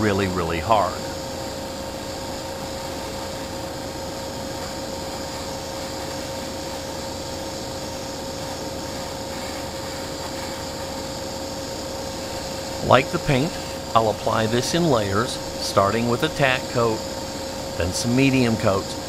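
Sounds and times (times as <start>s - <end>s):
airbrush air hissing: 0.0s - 19.0s
exhaust fan hum: 0.0s - 19.0s.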